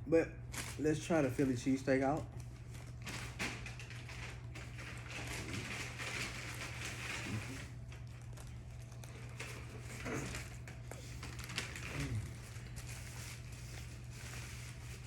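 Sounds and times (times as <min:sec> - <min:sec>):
steady low hum: 0:00.0 - 0:15.0
wrapper rustling: 0:00.5 - 0:15.0.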